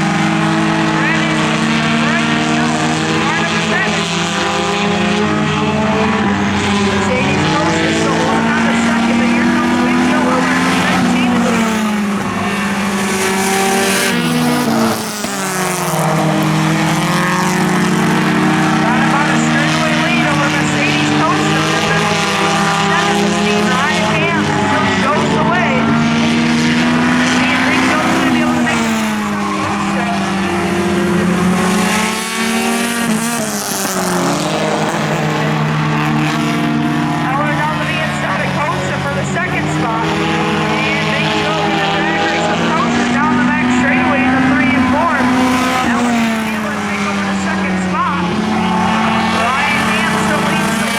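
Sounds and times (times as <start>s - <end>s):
race car engines at high revs: 0.0s - 50.9s.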